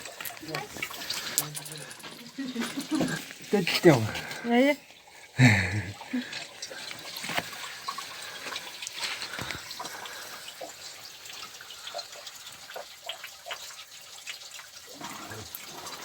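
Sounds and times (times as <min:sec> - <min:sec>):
small water splashes: 0:00.0 - 0:05.3, 0:05.9 - 0:16.0
steady rush of water: 0:00.0 - 0:16.0
water trickling and dripping: 0:00.0 - 0:16.0.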